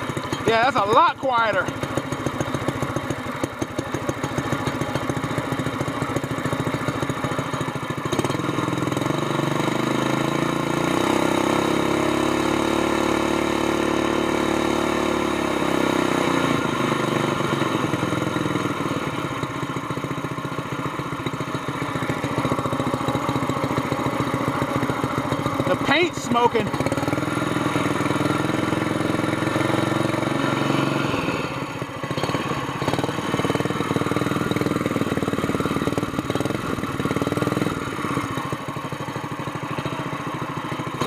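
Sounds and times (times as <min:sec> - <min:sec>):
small engine idling and revving: 0:00.0 - 0:41.0.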